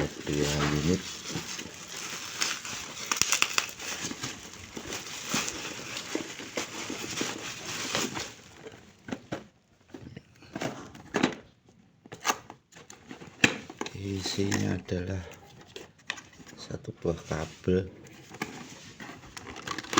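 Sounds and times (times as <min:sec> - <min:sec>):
packaging crinkling and rustling: 0:00.0 - 0:11.1, 0:12.1 - 0:19.9.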